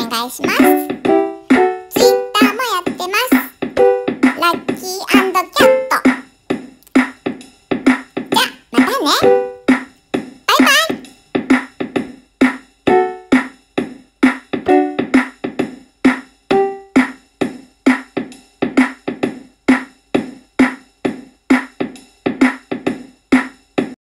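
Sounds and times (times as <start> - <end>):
drum-machine beat: 0.0 - 24.0.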